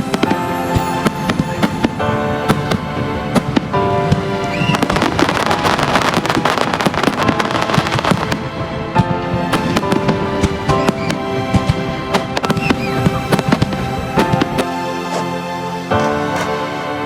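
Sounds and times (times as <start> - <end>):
fireworks popping and banging: 0.0 - 15.3, 15.9 - 16.7
fireworks crackling: 0.0 - 16.9
music: 0.0 - 17.0.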